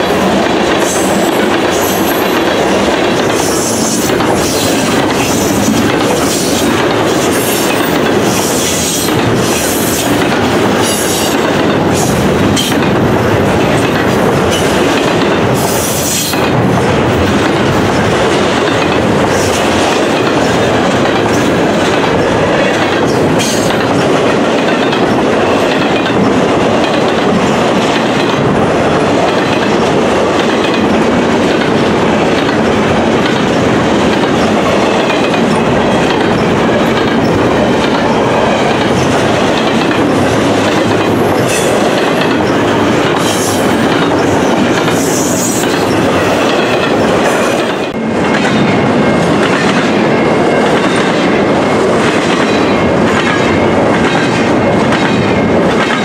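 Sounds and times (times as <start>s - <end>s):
steel wheels clattering over rails: 0.0s - 56.0s.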